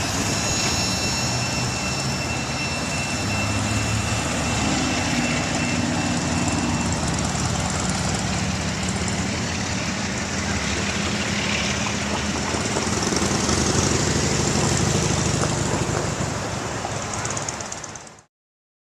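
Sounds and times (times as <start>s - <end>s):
diesel locomotive engine humming: 0.0s - 18.2s
train wheels rumbling on rails: 0.0s - 18.3s.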